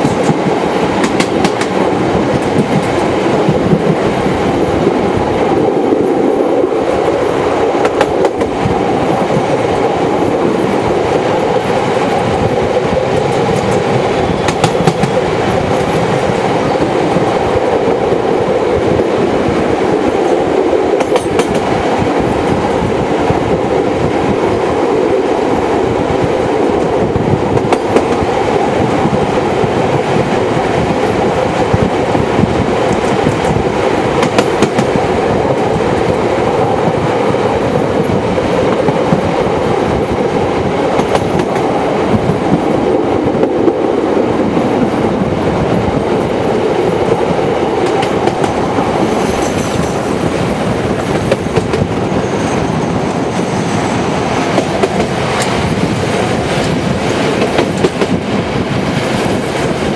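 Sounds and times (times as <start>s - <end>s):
train carriages rumbling and rattling: 0.0s - 59.9s.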